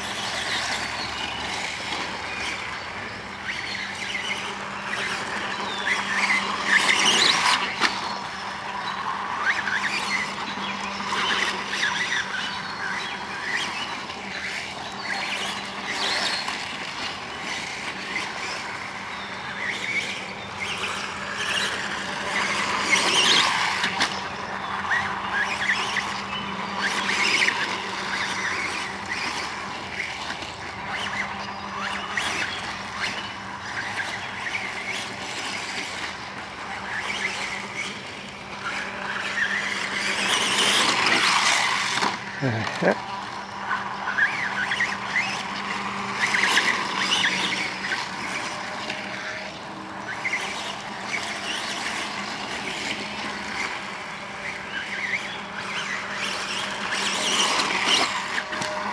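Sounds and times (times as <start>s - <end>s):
model dirt bike motor whining: 0.0s - 58.9s
model quad motor: 0.0s - 58.9s.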